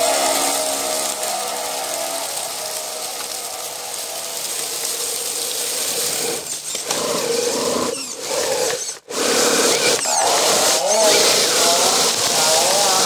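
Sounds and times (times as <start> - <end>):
dry leaves rustling under tyres: 0.0 - 13.0
electric motor and gears whining: 0.0 - 13.0.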